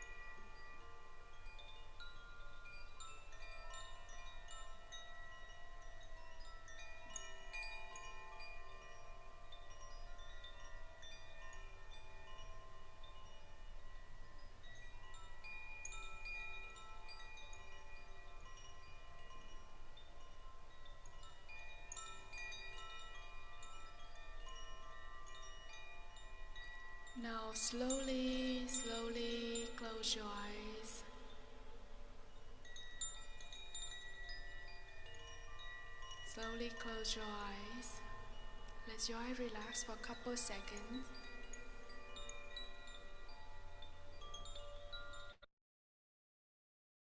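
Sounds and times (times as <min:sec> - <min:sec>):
wind chimes ringing: 0:00.0 - 0:45.5.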